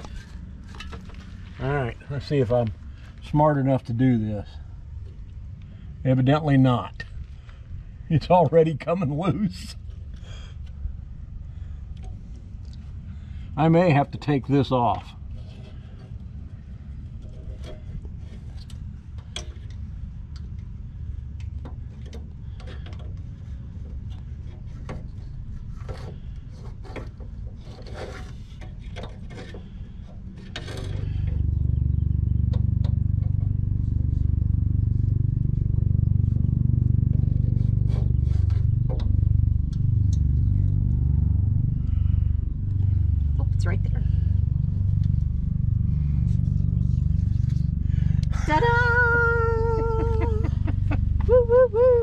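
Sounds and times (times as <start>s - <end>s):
low rumble: 0.0s - 26.4s, 29.6s - 52.0s.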